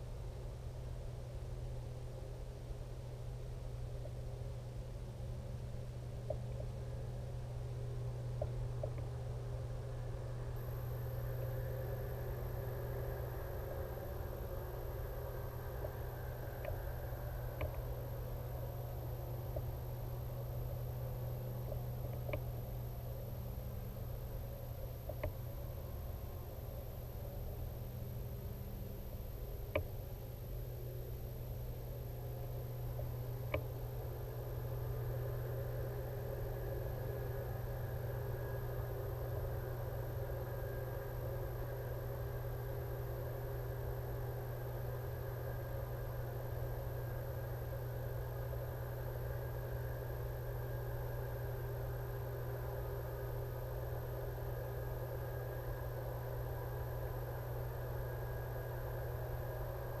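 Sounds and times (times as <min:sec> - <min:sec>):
low hum and hiss: 0:00.0 - 1:00.0
thin high whine: 0:00.0 - 1:00.0.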